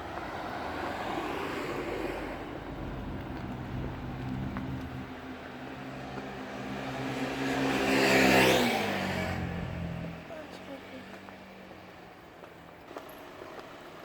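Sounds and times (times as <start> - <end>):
vehicle passing by: 0.0 - 13.8.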